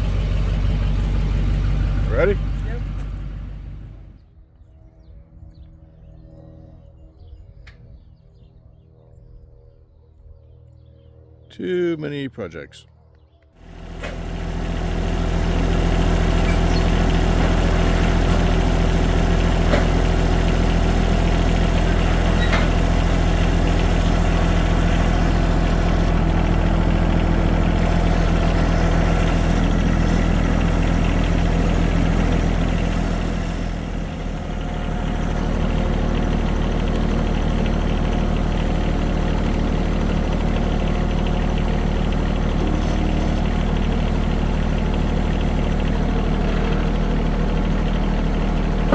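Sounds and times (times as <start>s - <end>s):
tractor engine running: 0.0s - 4.3s, 13.5s - 48.9s.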